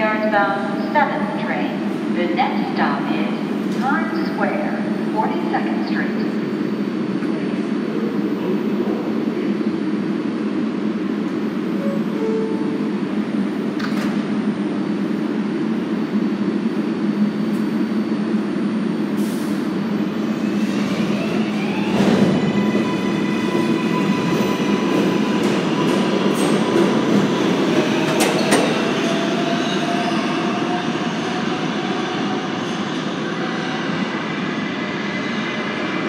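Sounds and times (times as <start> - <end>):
subway train rumbling: 0.0 - 36.0.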